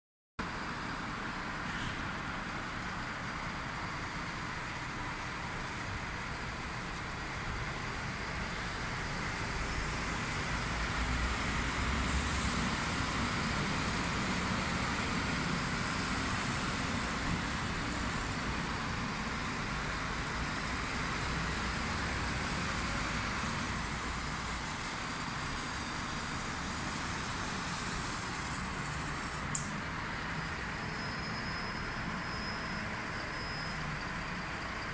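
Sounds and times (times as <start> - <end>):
city traffic noise: 0.4 - 34.9
diesel truck engines rumbling: 0.4 - 34.9.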